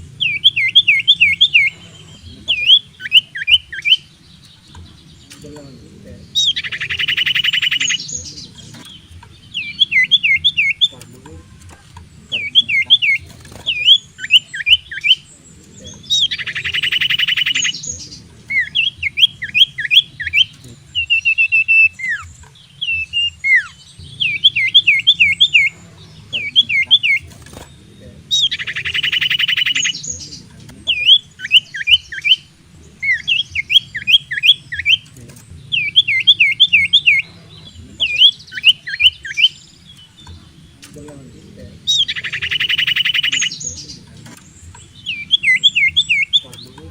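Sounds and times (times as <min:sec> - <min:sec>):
bird buzzing rattle: 0:00.0 - 0:46.9
bird whistling song: 0:00.0 - 0:46.9.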